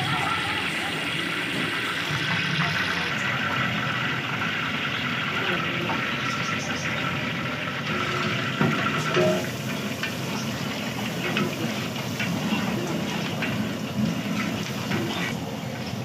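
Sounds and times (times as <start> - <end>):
water boiling and bubbling: 0.0 - 16.0.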